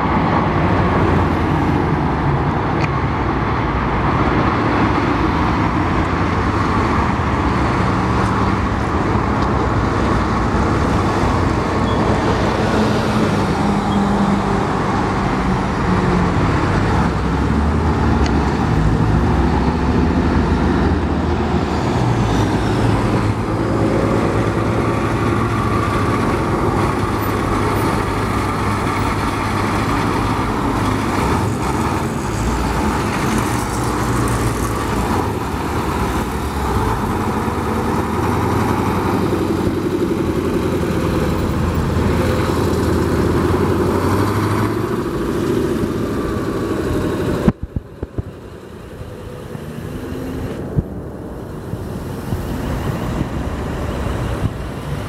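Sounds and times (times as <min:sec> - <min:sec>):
diesel engine running: 0:00.0 - 0:55.0
street traffic passing: 0:00.0 - 0:55.0.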